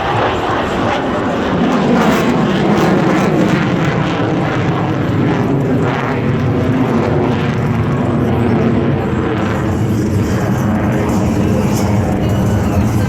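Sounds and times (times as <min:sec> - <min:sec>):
aircraft engine flying past: 0:00.0 - 0:13.0.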